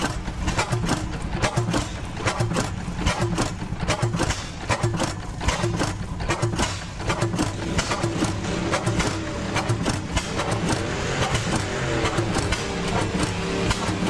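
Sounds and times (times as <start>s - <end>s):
stationary gas engine clattering: 0.0s - 14.0s.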